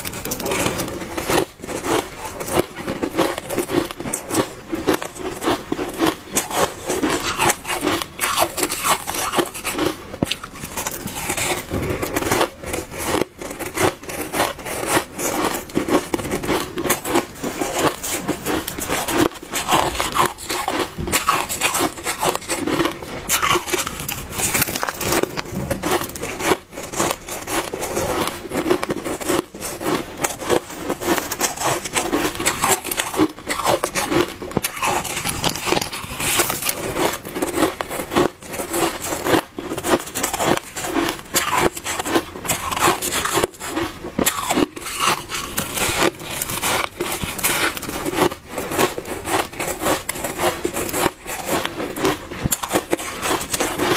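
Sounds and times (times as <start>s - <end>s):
frost being chewed: 0.0s - 53.9s.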